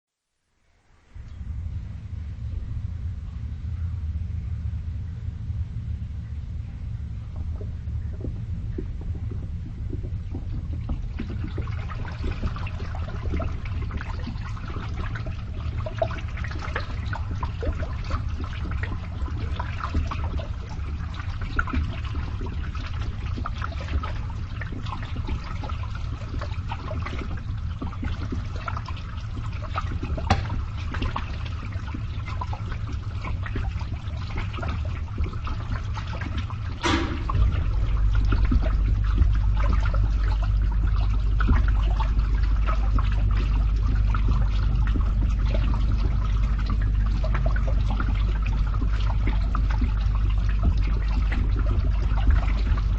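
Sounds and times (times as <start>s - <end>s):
pump humming: 1.0s - 52.9s
water gurgling through pipe: 6.0s - 52.9s.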